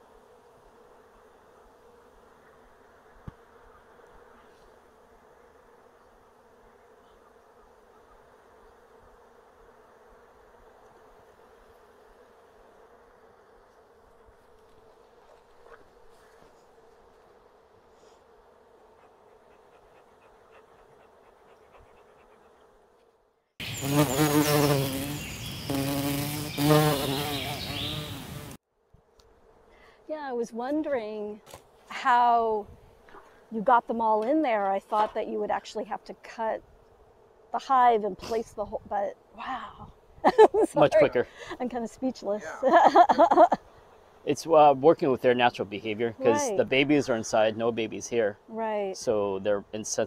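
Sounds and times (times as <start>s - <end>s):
bee swarm humming: 0.0s - 50.0s.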